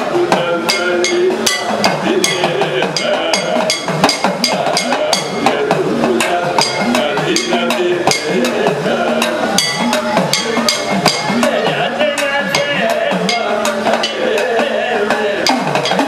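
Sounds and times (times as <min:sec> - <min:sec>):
hourglass drum bending tones: 0:00.0 - 0:16.0
man singing: 0:00.0 - 0:16.0.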